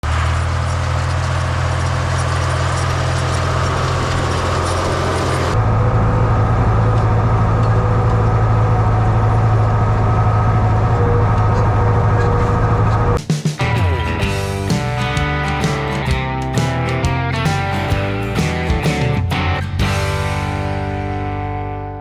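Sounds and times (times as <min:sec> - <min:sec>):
tractor engine humming: 0:00.0 - 0:21.6.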